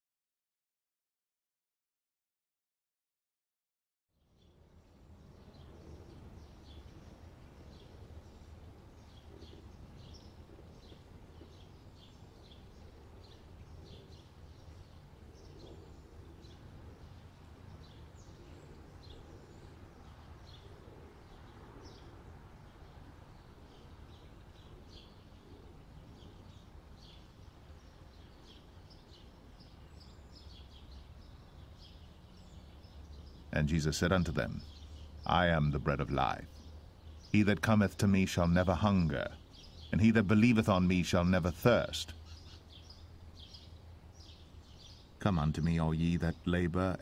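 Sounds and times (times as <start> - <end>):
faint birdsong chirps: 4.1 - 47.0.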